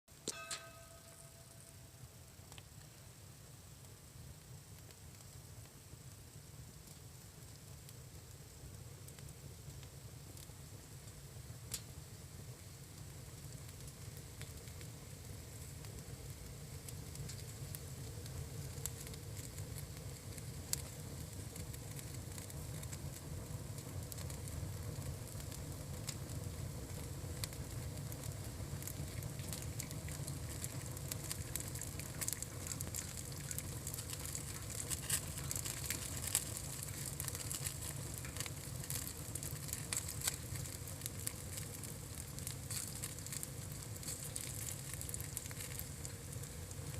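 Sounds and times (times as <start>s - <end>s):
campfire crackling with pops: 0.1s - 46.9s.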